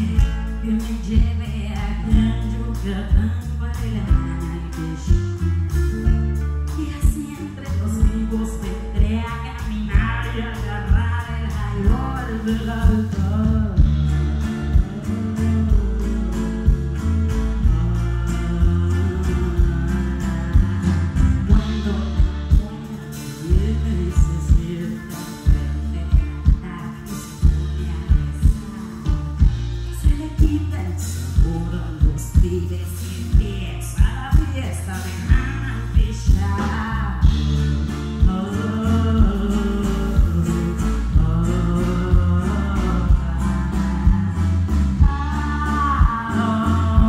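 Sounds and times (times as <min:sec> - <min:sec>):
acoustic guitars strumming: 0:00.0 - 0:47.0
bass: 0:00.0 - 0:47.0
drum kit beat: 0:00.0 - 0:47.0
woman singing: 0:00.0 - 0:47.0.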